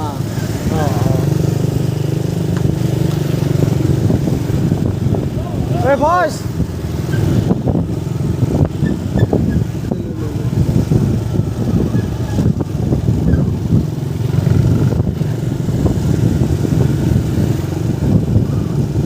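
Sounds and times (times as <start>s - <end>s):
motorcycle engines rumbling: 0.0s - 19.0s
street traffic: 0.0s - 19.0s.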